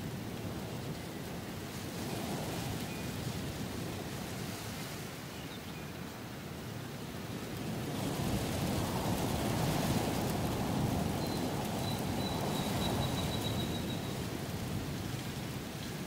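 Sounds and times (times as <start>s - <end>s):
strong wind rushing through foliage: 0.0s - 16.0s.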